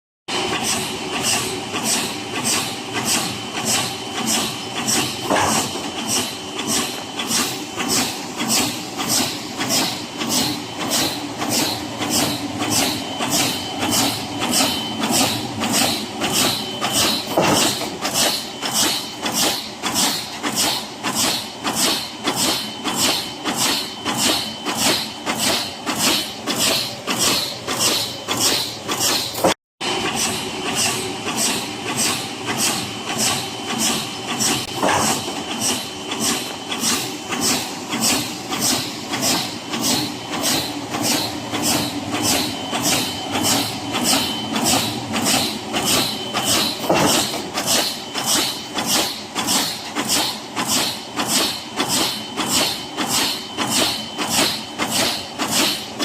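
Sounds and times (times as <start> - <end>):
press stamping metal: 0.3 - 56.0.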